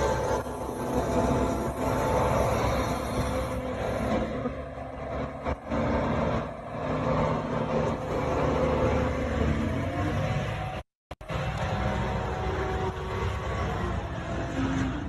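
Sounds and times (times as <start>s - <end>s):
heavy machinery engine running: 0.0s - 15.0s.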